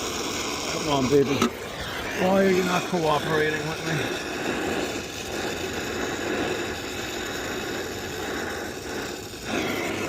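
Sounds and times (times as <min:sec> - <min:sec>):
torch flame hissing: 0:00.0 - 0:10.0.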